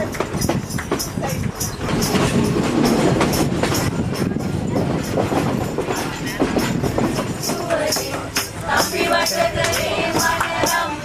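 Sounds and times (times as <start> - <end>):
train rumbling on track: 0.0 - 11.0
wheels clicking on rails: 0.0 - 11.0.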